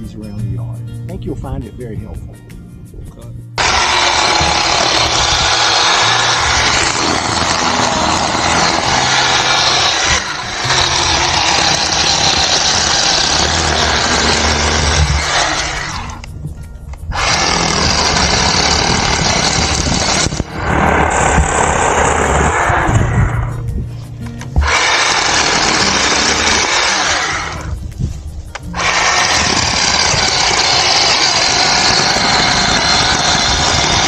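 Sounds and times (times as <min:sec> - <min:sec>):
electric chainsaw cutting wood: 0:03.6 - 0:16.3, 0:17.1 - 0:23.5, 0:24.6 - 0:27.8, 0:28.6 - 0:34.0.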